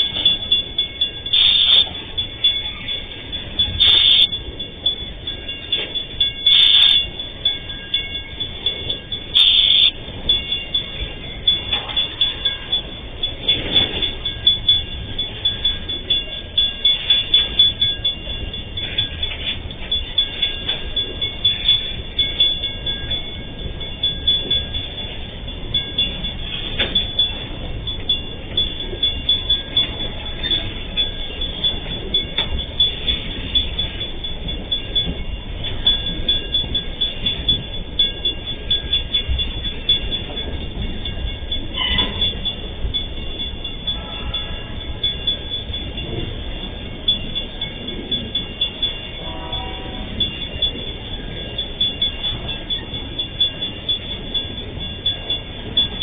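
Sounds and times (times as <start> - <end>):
high ringing tones: 0.0 - 56.0
train wheels clattering over rail joints: 0.0 - 56.0.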